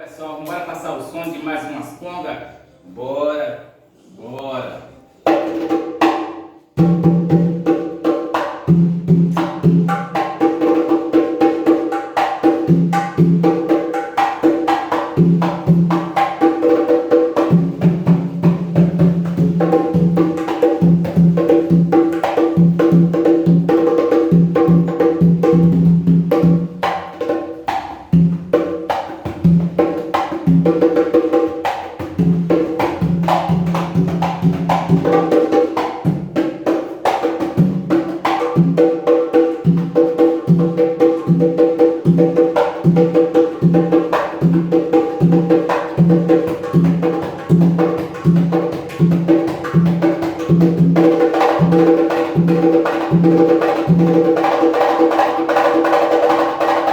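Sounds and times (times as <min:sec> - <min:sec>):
conga drums played by hand: 0:05.2 - 0:56.9.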